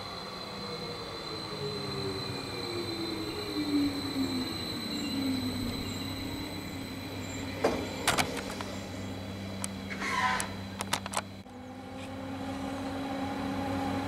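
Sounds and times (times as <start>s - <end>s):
electric train motor whine: 0.0s - 14.0s
train wheels rumbling on rails: 0.0s - 14.0s.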